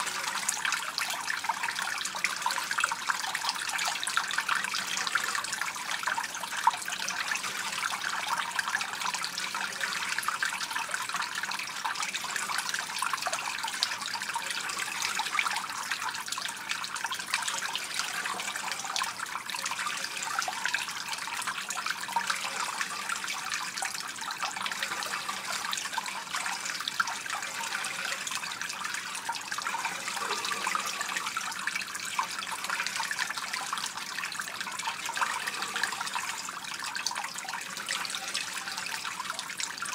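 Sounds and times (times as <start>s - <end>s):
water pouring into pool: 0.0s - 39.9s.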